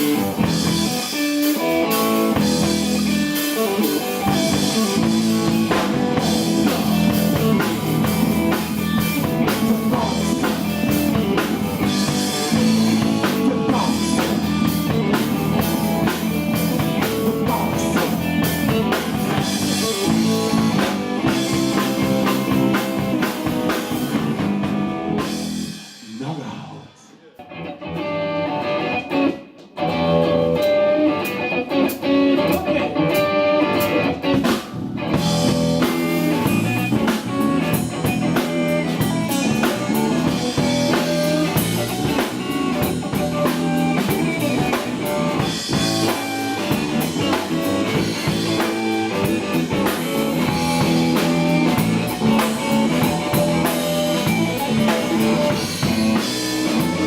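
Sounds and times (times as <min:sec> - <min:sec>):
electric guitar: 0:00.0 - 0:26.2, 0:27.2 - 0:57.0
blues-rock band playing: 0:00.0 - 0:26.3, 0:27.4 - 0:57.0
drum kit: 0:00.0 - 0:27.4, 0:28.1 - 0:57.0.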